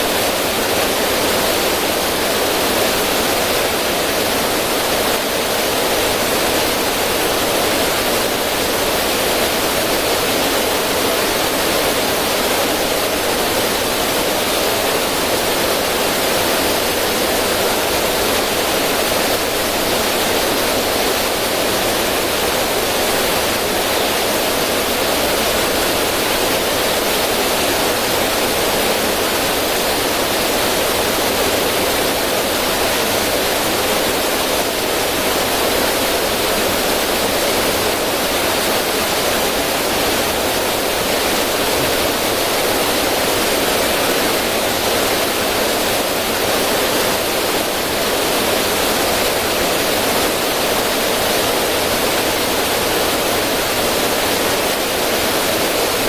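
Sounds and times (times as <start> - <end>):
river rushing over rocks: 0.0 - 56.0
water splashing down cascade: 0.0 - 56.0.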